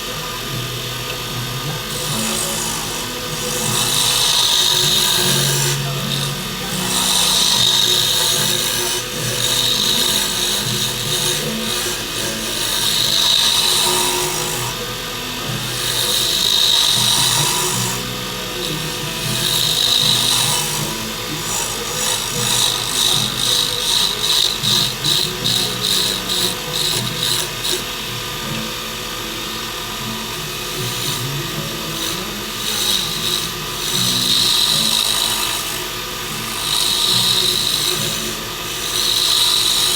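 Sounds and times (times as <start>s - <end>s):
turning tool cutting hiss: 0.0s - 39.9s
wood lathe spinning: 0.0s - 39.9s.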